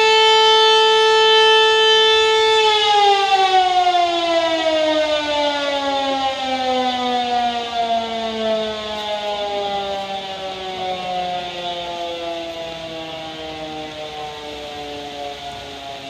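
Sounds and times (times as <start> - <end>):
siren winding down: 0.0 - 16.0.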